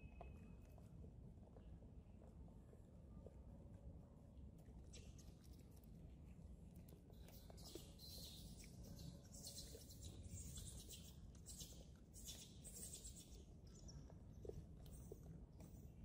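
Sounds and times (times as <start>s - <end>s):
faint outdoor rumble: 0.0s - 16.0s.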